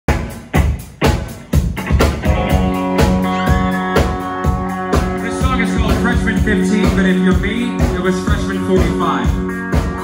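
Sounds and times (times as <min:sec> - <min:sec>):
rock band playing: 0:00.1 - 0:10.0.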